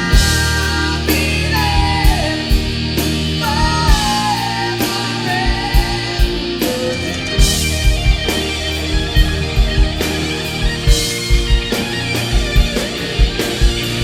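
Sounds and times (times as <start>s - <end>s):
bass guitar: 0.0s - 14.0s
guitar: 0.0s - 14.0s.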